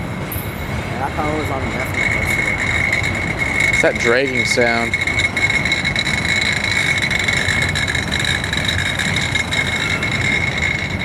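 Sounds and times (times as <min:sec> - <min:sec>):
freight train rumbling: 0:00.0 - 0:11.0
high-pitched dragging sound: 0:00.9 - 0:11.0.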